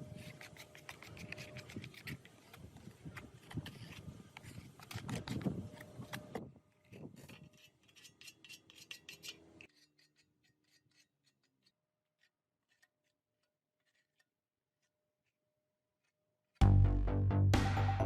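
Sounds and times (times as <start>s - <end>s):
faint tool clicking and scraping: 0.0s - 16.6s.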